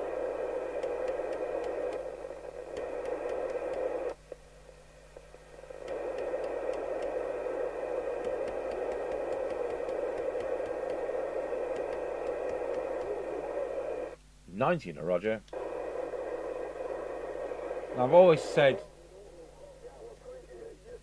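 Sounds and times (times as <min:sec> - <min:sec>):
radio hiss and static: 0:00.0 - 0:21.0.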